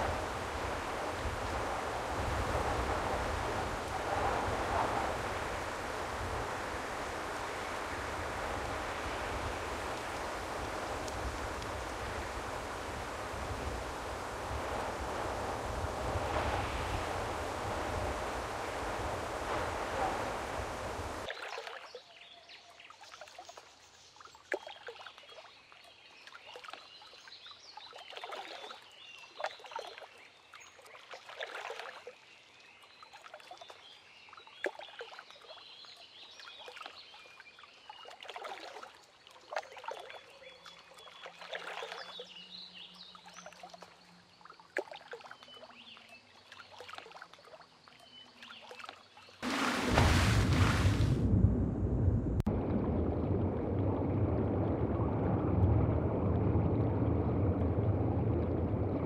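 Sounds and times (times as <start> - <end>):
water swells: 0.0 - 59.0.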